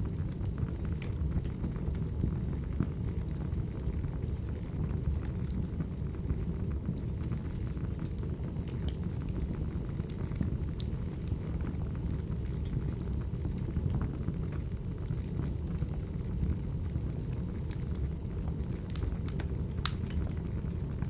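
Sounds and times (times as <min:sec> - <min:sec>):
burning logs crackling and popping: 0:00.0 - 0:21.0
low rumble of flames: 0:00.0 - 0:21.0.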